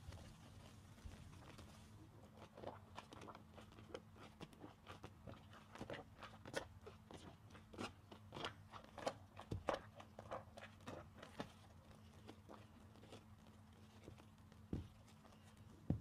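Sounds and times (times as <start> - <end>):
soapy sponge squishing: 0.0 - 16.0.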